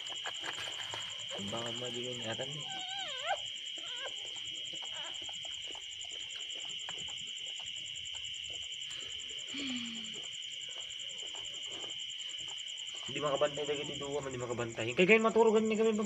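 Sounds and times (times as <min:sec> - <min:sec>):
dog licking puppies: 0:00.0 - 0:14.4
crickets chirring: 0:00.0 - 0:16.0.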